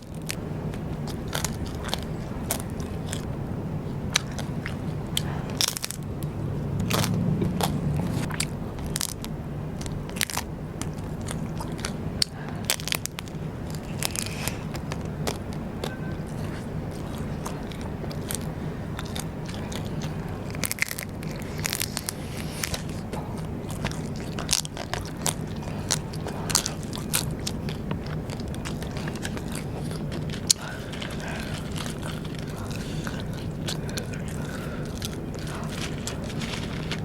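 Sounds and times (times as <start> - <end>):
crunchy chewing: 0.0 - 37.0
low hum: 0.0 - 37.0.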